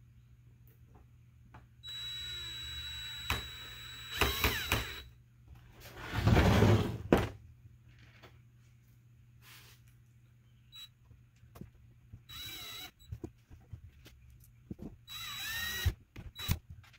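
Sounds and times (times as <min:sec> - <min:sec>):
faint hum with high whine: 0:00.0 - 0:16.9.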